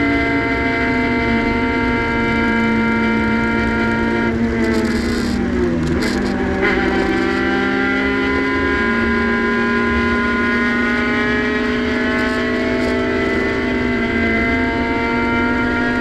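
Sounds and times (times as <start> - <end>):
race car engine pulling hard: 0.0 - 16.0.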